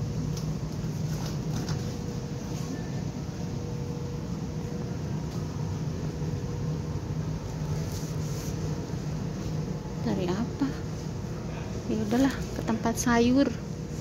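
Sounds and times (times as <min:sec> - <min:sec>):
store background hum and hiss: 0:00.0 - 0:14.0.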